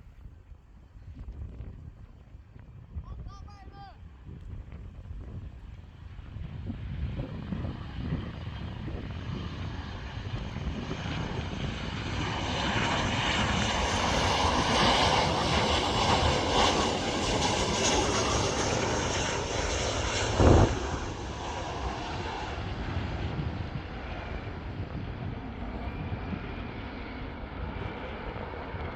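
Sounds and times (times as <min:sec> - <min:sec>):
jet airliner engine noise: 0:00.8 - 0:28.9.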